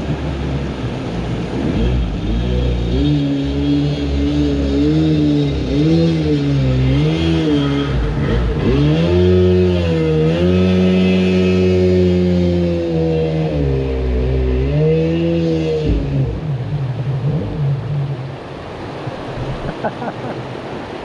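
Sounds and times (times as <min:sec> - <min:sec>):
jet boat engine revving: 0:00.0 - 0:21.0.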